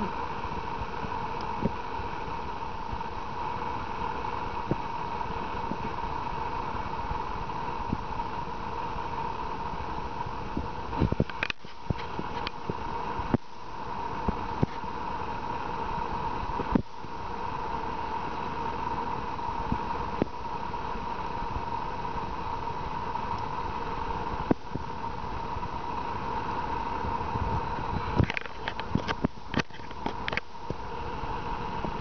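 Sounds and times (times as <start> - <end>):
background hiss with hum: 0.0 - 32.0.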